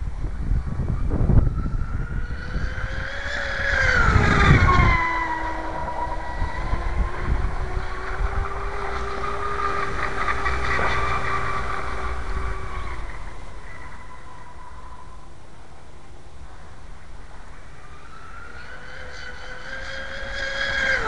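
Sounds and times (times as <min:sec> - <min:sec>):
electric motor whining: 0:00.0 - 0:15.2, 0:17.5 - 0:21.0.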